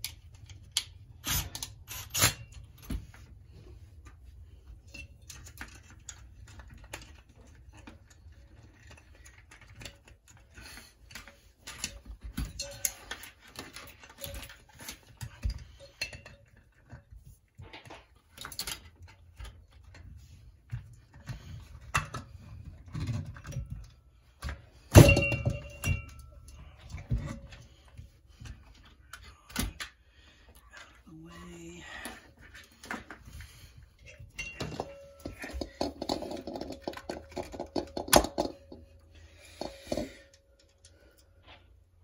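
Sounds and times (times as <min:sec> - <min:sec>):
hands handling metal parts clicking: 0:00.0 - 0:03.3, 0:04.0 - 0:31.0, 0:32.1 - 0:41.9.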